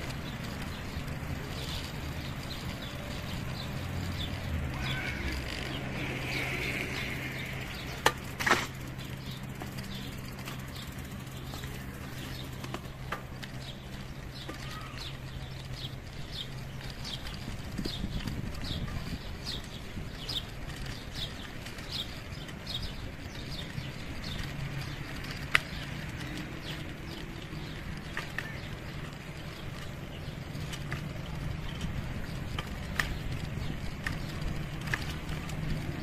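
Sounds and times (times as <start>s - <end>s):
footsteps on paved path: 0.0s - 36.0s.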